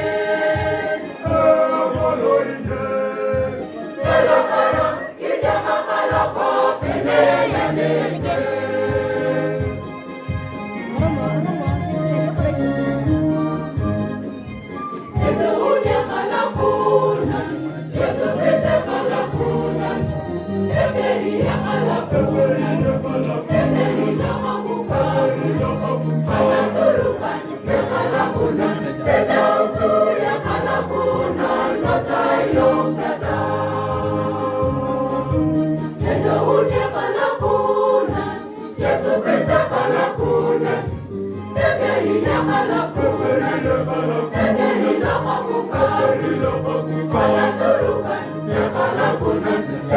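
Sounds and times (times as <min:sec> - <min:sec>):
choir singing a carol: 0:00.0 - 0:10.6, 0:11.3 - 0:49.9.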